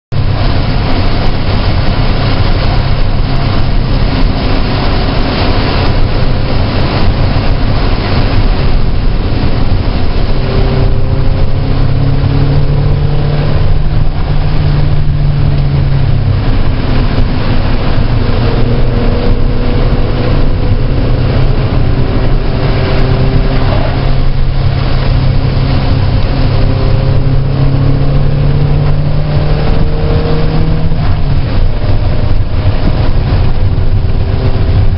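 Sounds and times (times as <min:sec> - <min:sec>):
race car engine revving: 0:00.1 - 0:34.9
wind and wet road noise: 0:00.1 - 0:34.9.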